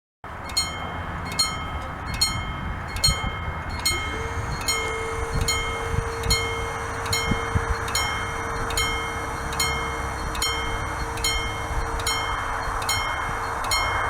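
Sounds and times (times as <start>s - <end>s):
level-crossing warning bell: 0.3s - 14.0s
steady hum: 0.3s - 14.0s.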